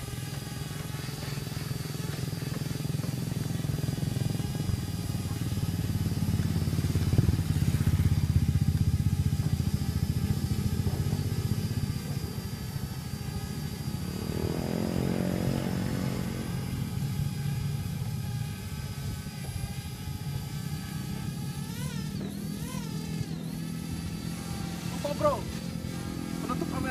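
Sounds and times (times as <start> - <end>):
drone propellers buzzing: 0.0 - 26.9.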